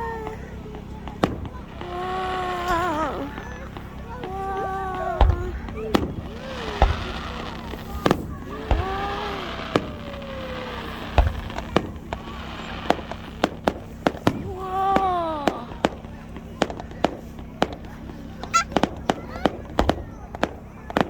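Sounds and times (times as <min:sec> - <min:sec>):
firework cracks and pops: 0:00.0 - 0:21.0
firework shells booming: 0:00.0 - 0:21.0.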